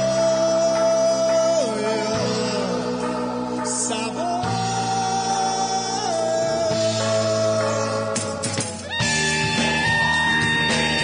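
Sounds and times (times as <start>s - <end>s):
live band playing chords: 0.0s - 11.0s.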